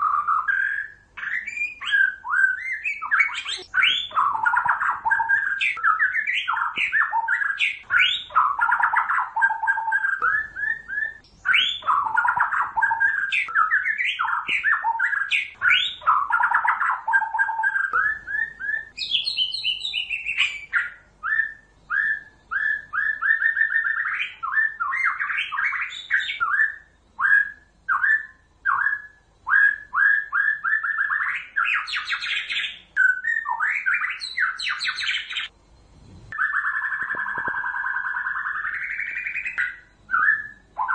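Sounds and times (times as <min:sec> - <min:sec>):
bird song whistles and chatter: 0:00.0 - 0:35.5, 0:36.2 - 0:40.9.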